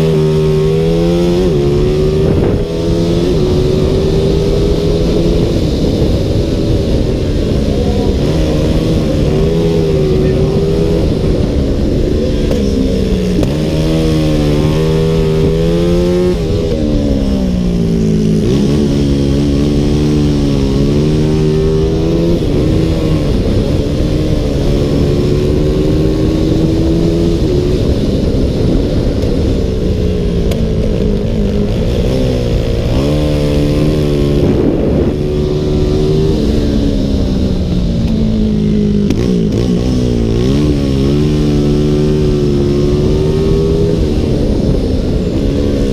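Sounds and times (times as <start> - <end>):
motorcycle engine at full throttle: 0.0 - 45.9.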